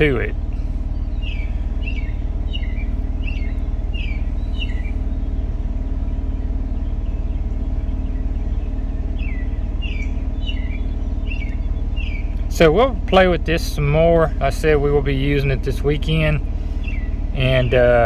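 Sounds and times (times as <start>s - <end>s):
bird chirping: 0.0s - 18.0s
low mechanical hum: 0.0s - 18.0s.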